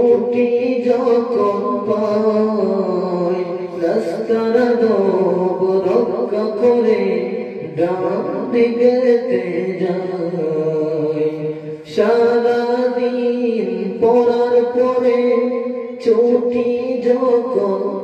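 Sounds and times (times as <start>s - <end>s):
boys singing into microphones: 0.0s - 18.0s.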